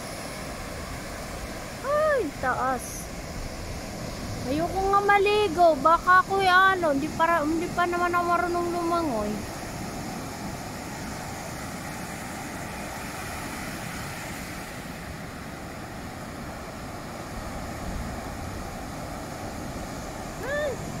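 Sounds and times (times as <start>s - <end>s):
ocean surf washing: 0.0s - 21.0s.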